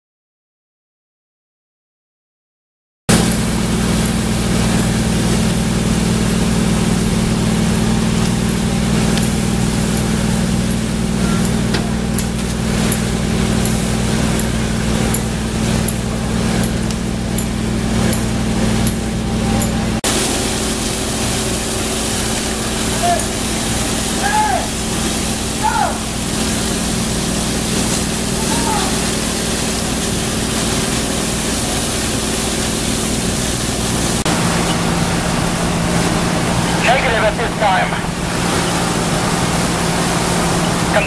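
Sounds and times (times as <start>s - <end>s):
diesel engine droning: 3.1s - 41.0s
water spraying from hoses: 3.1s - 41.0s.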